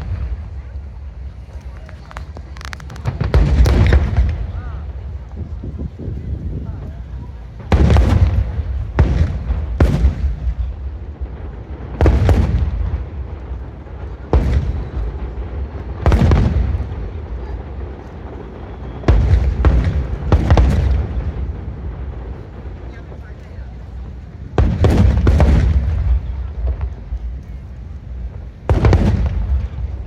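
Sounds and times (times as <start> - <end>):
fireworks booming: 0.0 - 30.0.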